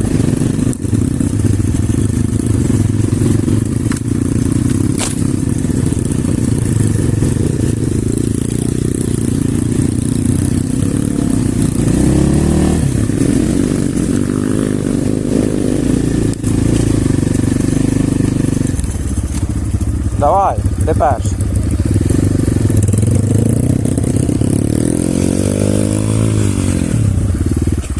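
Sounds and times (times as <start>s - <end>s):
pit bike engine revving: 0.0s - 27.9s.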